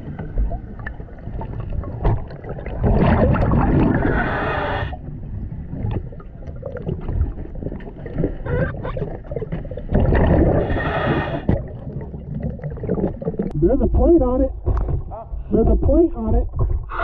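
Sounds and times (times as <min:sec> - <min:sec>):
exhaled bubbles gurgling: 0:00.0 - 0:13.6
underwater water noise: 0:00.0 - 0:17.0.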